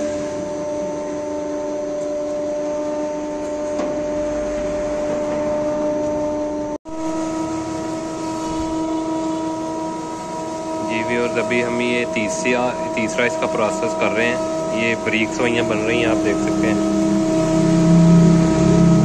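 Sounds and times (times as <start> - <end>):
machine hum with fixed tones: 0.0 - 19.0.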